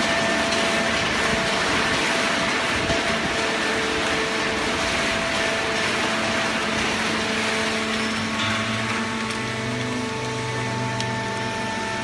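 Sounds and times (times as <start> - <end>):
baler machinery running: 0.0 - 12.0
deep machine hum: 0.0 - 12.0.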